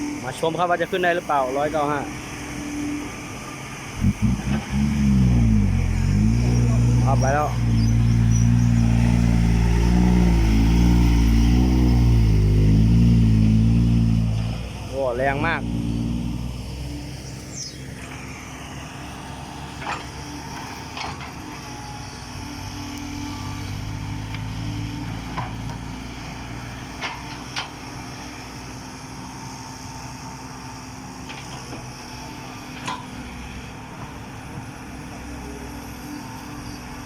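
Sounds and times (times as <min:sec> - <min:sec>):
truck diesel engine droning: 0:00.0 - 0:37.0.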